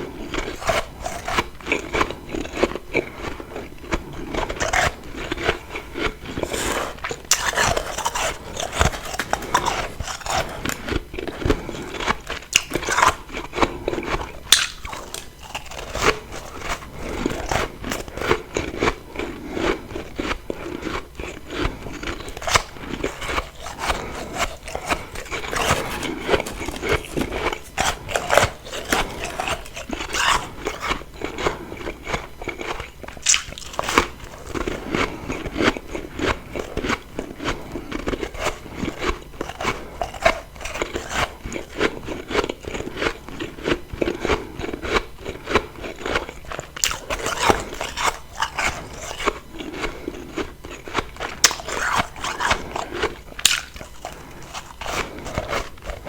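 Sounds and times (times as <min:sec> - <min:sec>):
chewing crunchy frost: 0:00.0 - 0:56.0.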